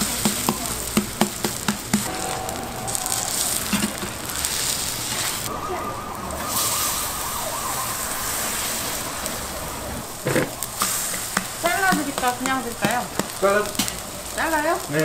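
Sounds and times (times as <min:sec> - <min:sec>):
batter sizzling in oil: 0:00.0 - 0:15.0.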